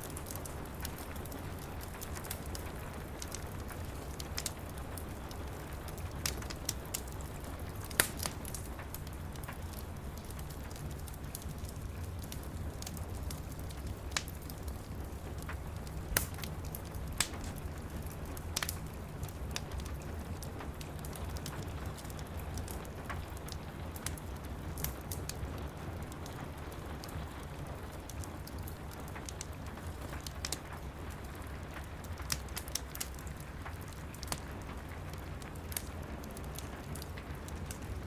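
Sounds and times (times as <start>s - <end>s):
soft hiss of rain: 0.0s - 38.0s
wood fire crackling and popping: 0.0s - 38.0s.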